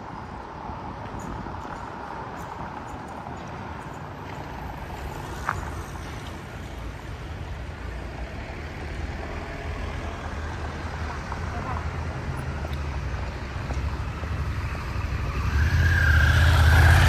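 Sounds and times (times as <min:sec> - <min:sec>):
city street ambience: 0:00.0 - 0:17.0
motor vehicle rumble: 0:00.0 - 0:17.0.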